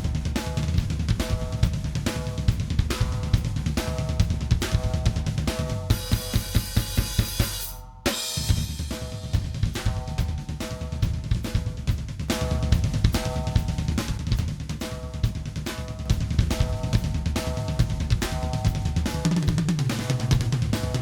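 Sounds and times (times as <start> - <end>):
drum kit beat: 0.0 - 21.0.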